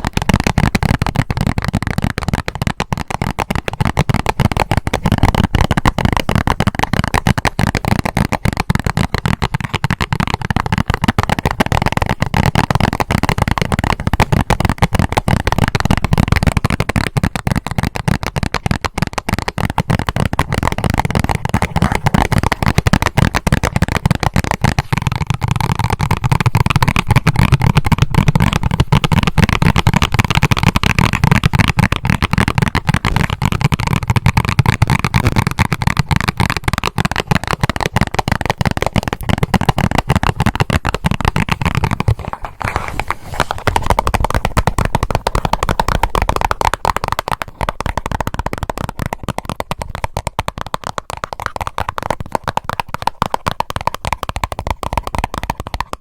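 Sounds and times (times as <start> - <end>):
fast tapping on a cardboard box: 0.0 - 56.0.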